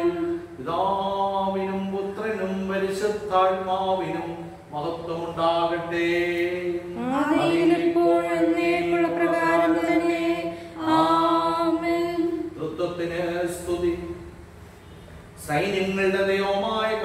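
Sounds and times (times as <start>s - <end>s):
man chanting prayer: 0.0s - 14.3s, 15.4s - 17.0s.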